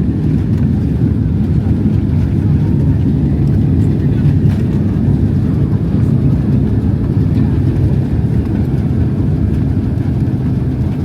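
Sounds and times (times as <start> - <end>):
low engine rumble in airliner cabin: 0.0 - 11.0.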